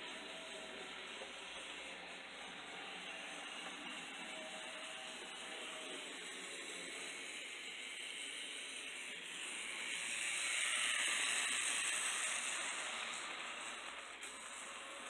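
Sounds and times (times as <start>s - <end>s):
model train motor whirring: 0.0s - 15.0s.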